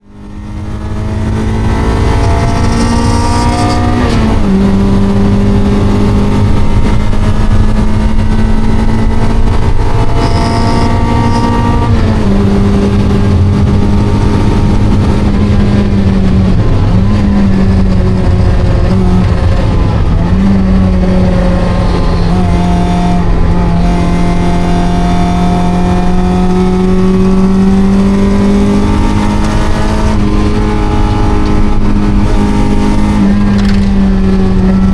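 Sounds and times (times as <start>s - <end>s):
car engine revving hard: 0.0s - 34.9s
road and wind rumble: 0.0s - 34.9s.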